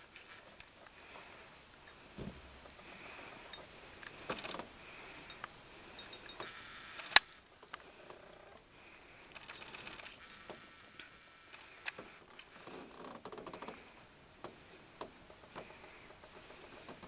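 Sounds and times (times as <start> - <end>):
small clicks and rustles: 0.0 - 17.0.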